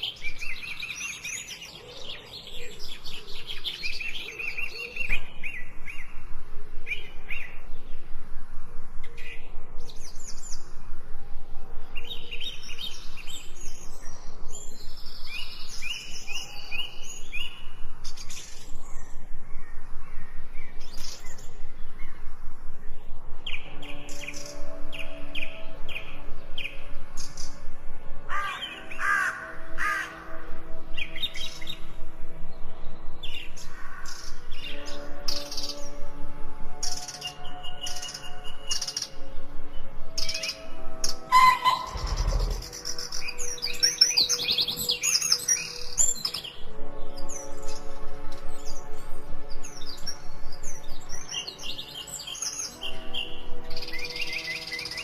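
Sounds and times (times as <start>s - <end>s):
low musical drone: 0.0s - 55.0s
songbirds chirping and singing: 0.0s - 55.0s.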